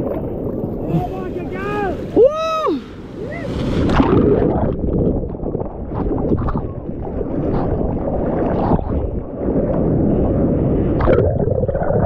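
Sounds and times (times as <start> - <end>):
water rushing and splashing: 0.0 - 12.0
wind buffeting microphone: 0.0 - 12.0.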